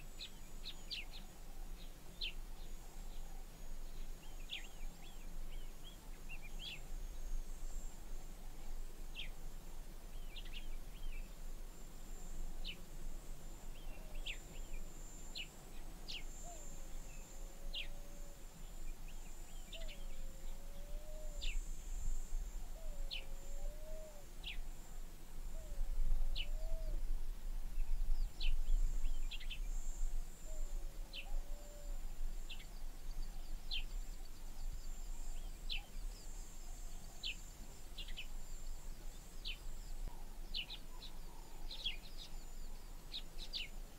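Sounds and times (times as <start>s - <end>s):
insect drone: 0.0s - 43.9s.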